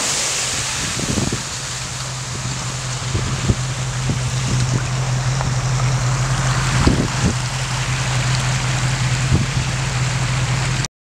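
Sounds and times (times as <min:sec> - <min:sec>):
wind on microphone: 0:00.4 - 0:10.8
steady low hum: 0:00.4 - 0:10.9.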